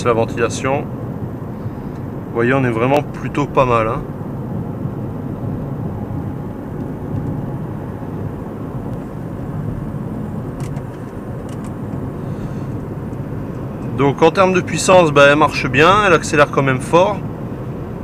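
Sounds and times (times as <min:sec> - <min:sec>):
diesel engine hum: 0:00.0 - 0:18.0
tyres on road: 0:00.0 - 0:18.0.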